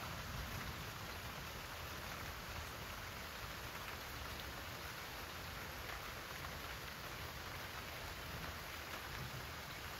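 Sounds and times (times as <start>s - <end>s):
rain pattering on leaves: 0.0s - 9.9s.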